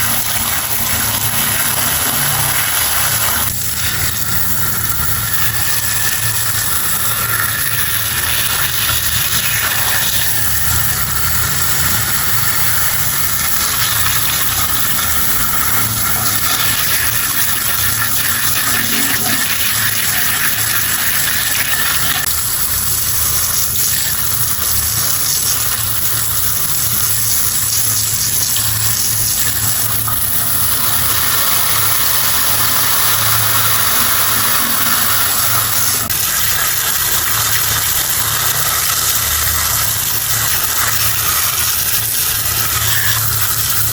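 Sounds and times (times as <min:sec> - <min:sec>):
small motor humming: 0:00.0 - 0:43.9
water spraying: 0:00.0 - 0:43.9.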